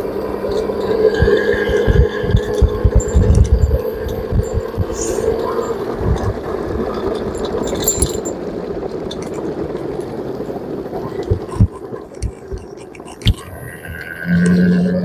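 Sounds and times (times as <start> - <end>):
electric scooter passing: 0.0 - 13.0.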